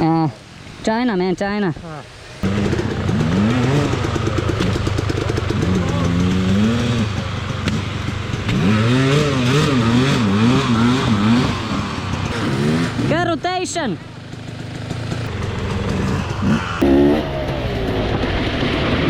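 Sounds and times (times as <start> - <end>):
dirt bike engine revving: 2.4 - 19.0.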